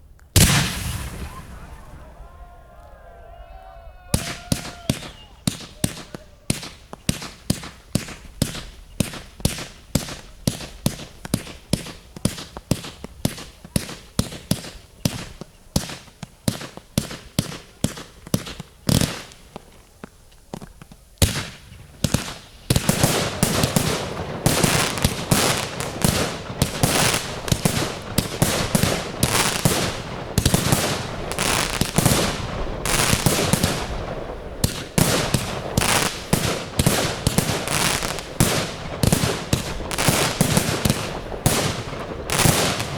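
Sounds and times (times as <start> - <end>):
fireworks bangs: 0.4 - 2.6, 4.0 - 42.9.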